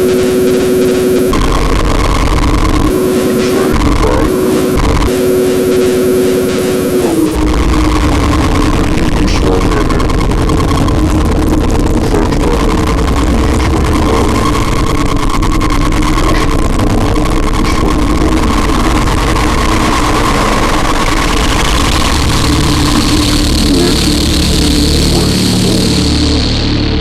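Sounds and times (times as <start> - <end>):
distorted droning noise music: 0.0 - 27.0
high whine: 0.0 - 27.0.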